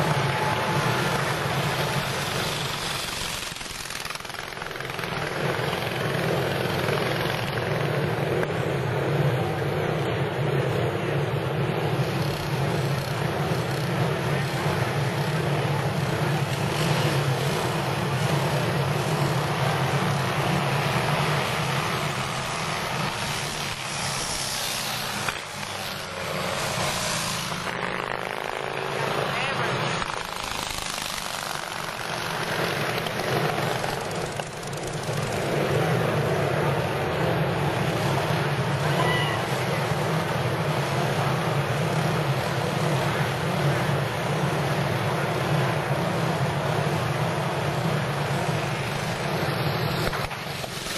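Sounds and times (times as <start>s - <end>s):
racing motorcycle engines droning: 0.0s - 50.9s.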